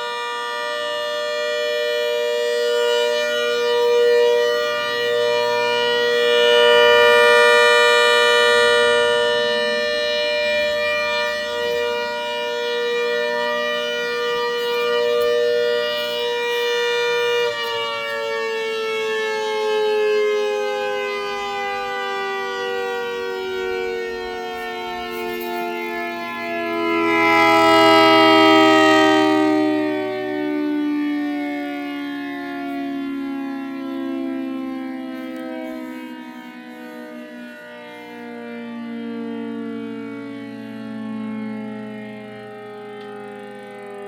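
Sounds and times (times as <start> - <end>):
siren chord falling in pitch: 0.0 - 44.0.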